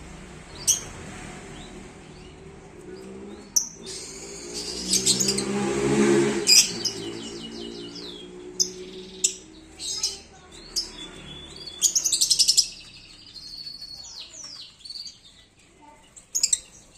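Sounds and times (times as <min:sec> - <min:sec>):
canaries chirping and calling: 0:00.0 - 0:16.9
fast trilled birdsong: 0:00.4 - 0:05.6, 0:06.5 - 0:16.9.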